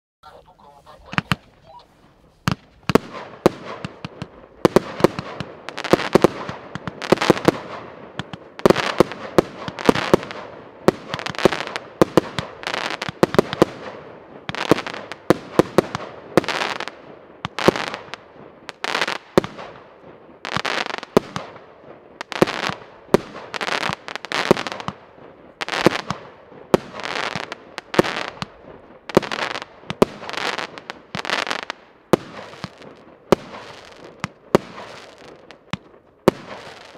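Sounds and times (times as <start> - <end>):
fireworks bangs: 0.6 - 36.9.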